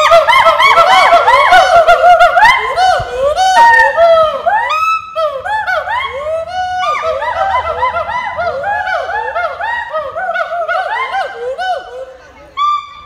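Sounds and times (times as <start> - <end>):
gibbon whooping: 0.0 - 13.0.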